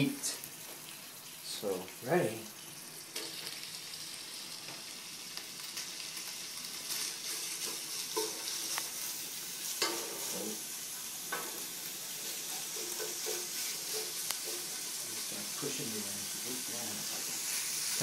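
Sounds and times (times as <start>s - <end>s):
pork sizzling on a griddle: 0.0s - 18.0s.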